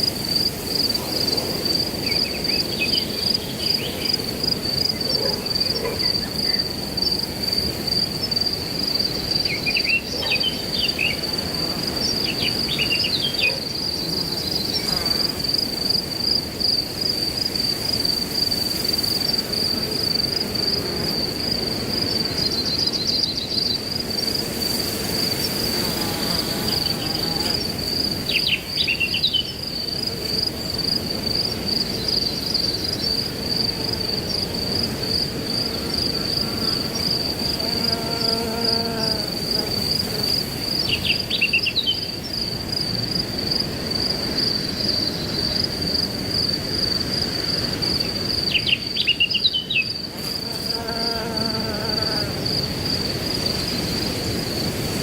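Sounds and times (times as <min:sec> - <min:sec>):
crickets trilling: 0:00.0 - 0:55.0
wind rustling through grass: 0:06.2 - 0:55.0.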